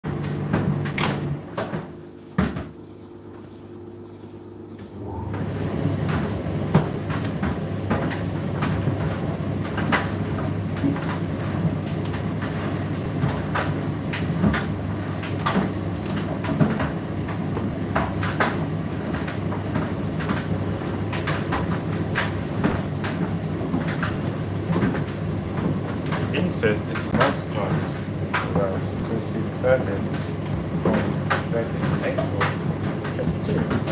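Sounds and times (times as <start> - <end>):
tumble dryer hum: 0.0 - 33.9.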